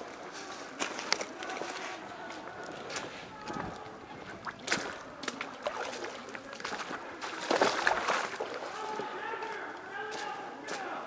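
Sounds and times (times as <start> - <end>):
footsteps splashing through water: 0.0 - 10.9.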